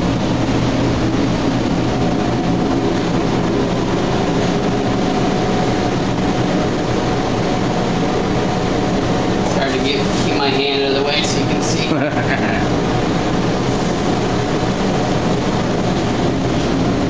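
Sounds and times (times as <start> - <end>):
mechanical drone with low hum: 0.0 - 17.0.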